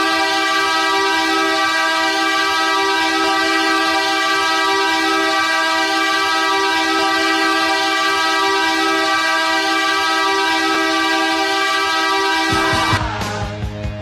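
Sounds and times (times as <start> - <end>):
arena goal horn blast: 0.0 - 13.1.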